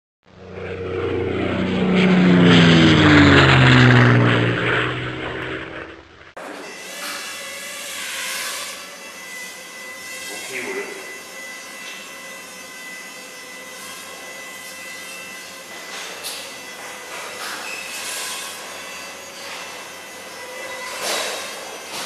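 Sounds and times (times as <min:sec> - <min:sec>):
aircraft flyby drone: 0:00.3 - 0:22.0
quadcopter propellers whining: 0:00.3 - 0:22.0.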